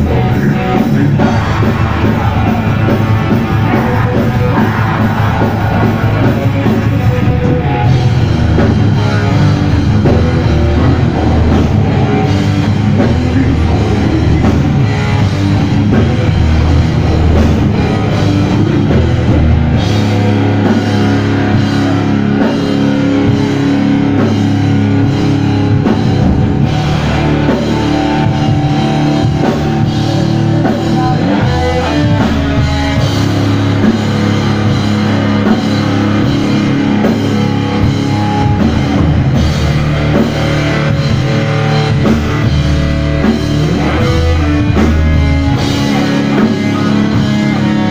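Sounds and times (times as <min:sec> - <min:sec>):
drum kit: 0:00.0 - 0:47.9
electric guitars: 0:00.0 - 0:47.9.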